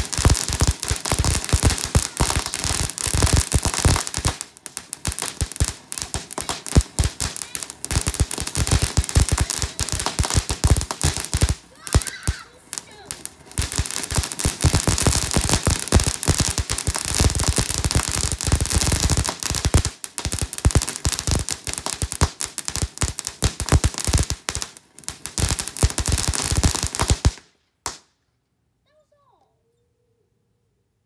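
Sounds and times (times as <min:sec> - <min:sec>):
firework crackling and popping: 0:00.0 - 0:28.1.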